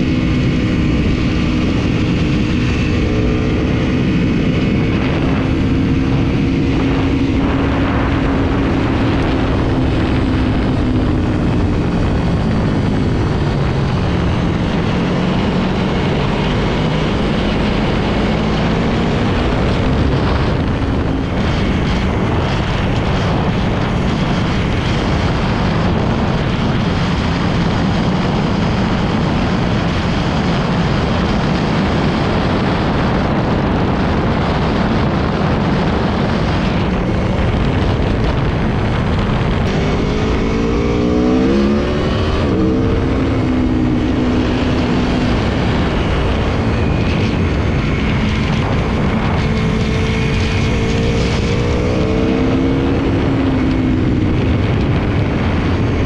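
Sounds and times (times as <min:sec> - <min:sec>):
motorcycle engine cruising: 0:00.0 - 0:56.0
wind rush: 0:00.0 - 0:56.0.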